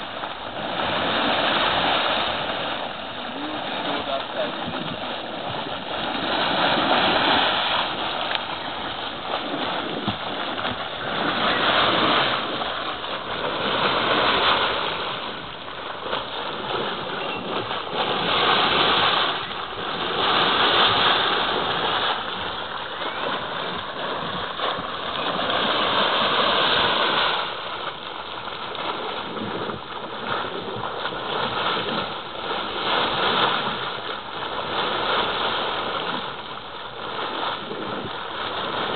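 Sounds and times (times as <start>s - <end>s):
liquid gushing and gurgling: 0.0s - 38.9s.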